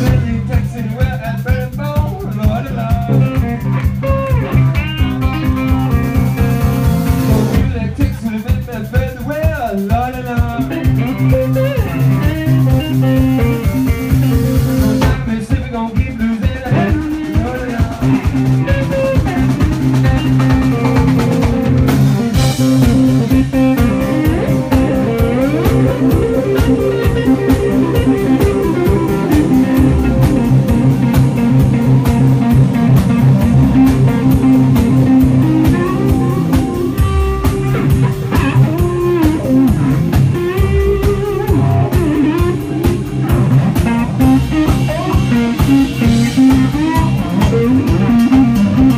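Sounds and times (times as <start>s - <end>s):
bass guitar: 0.0s - 48.9s
drum kit: 0.0s - 48.9s
electric guitar soloing: 1.8s - 8.3s, 10.5s - 15.4s, 16.4s - 48.9s.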